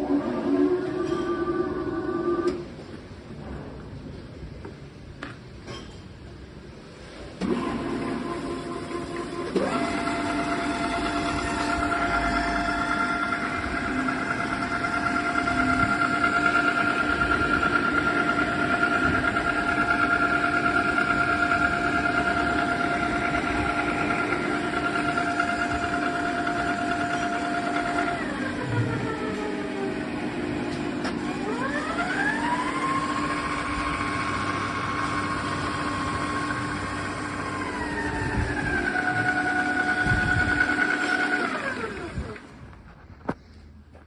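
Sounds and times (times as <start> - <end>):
pillar drill motor whining: 7.4 - 42.8.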